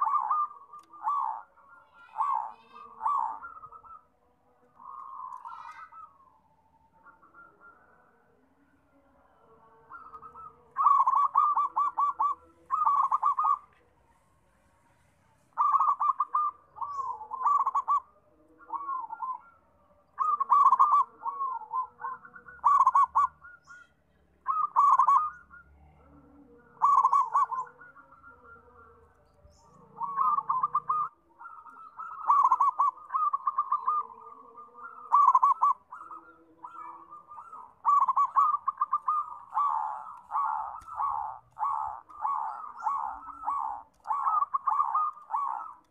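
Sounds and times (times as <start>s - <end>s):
dove cooing in trilled bursts: 0.0s - 4.1s, 4.8s - 6.4s, 9.6s - 13.8s, 15.5s - 45.9s.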